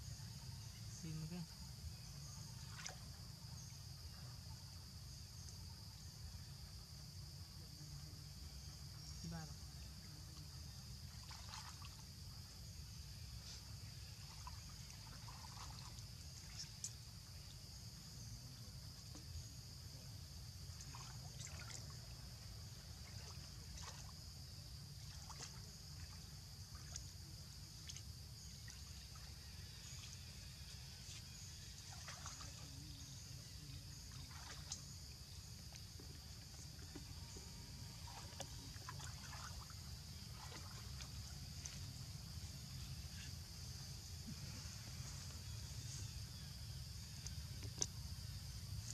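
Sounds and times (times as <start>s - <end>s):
water splashes and trickles: 0.9s - 4.4s, 7.9s - 44.5s, 46.8s - 48.9s.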